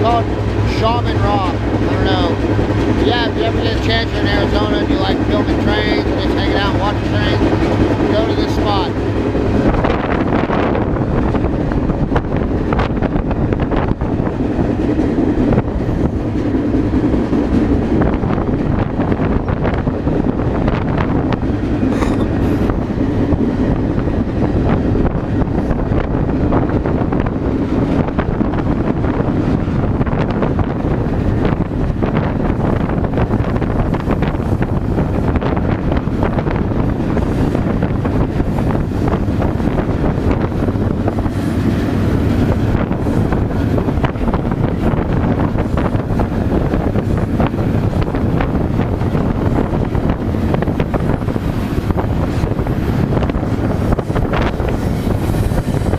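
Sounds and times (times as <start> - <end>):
train rattles and clanks: 0.0 - 55.9
train rumble: 0.0 - 55.9
wind rushing over microphone: 0.0 - 55.9.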